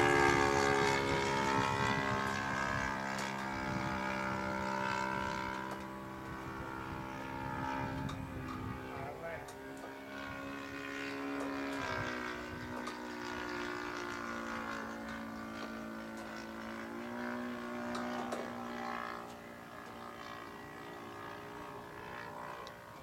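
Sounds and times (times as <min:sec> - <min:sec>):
model plane engine running: 0:00.0 - 0:23.0.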